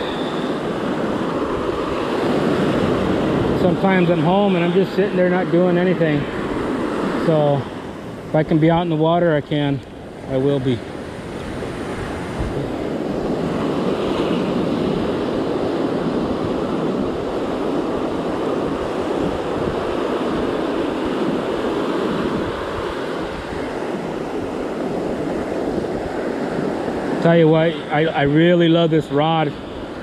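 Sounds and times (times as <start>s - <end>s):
foamy wash over sand: 0.0s - 30.0s
waves breaking: 0.0s - 30.0s.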